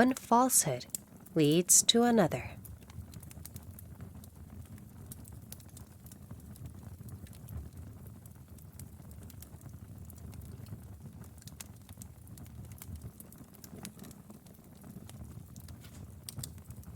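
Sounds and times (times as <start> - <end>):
log fire crackling: 0.0 - 16.9
low rumble of flames: 2.0 - 16.9.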